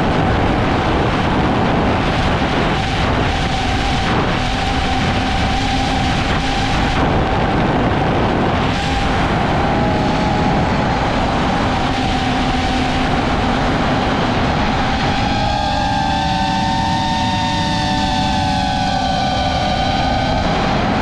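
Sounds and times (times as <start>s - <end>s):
drone propellers whining: 0.0s - 21.0s
wind rush on microphone: 0.0s - 21.0s.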